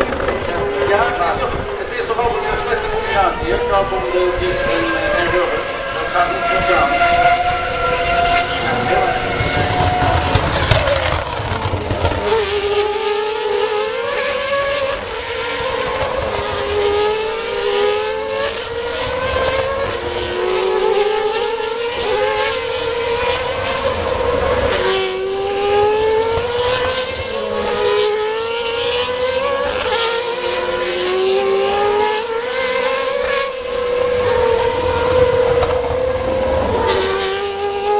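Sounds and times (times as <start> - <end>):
race car engines at high revs: 0.0 - 37.9.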